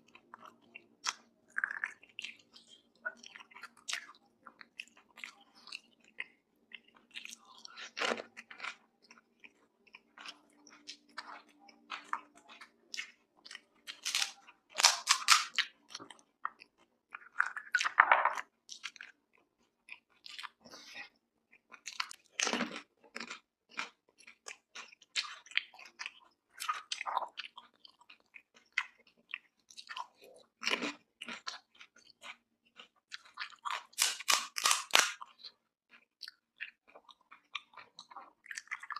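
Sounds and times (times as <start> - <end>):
chewing and crunching crisp food: 0.0 - 38.9.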